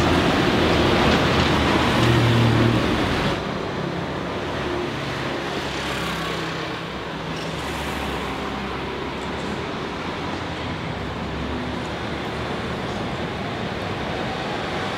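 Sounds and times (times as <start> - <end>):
traffic hum: 0.0 - 14.9.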